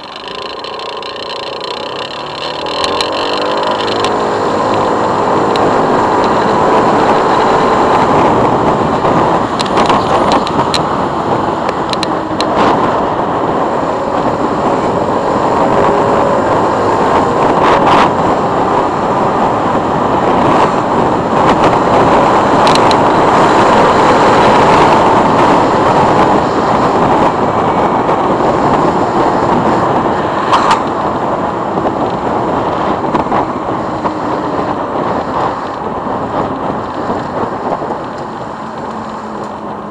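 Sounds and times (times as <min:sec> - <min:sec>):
motorcycle engine wind and road noise: 0:00.0 - 0:39.9.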